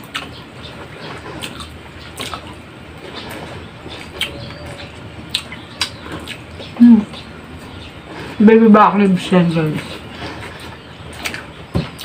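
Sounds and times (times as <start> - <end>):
wet chewing: 0.0 - 8.4, 9.6 - 12.0.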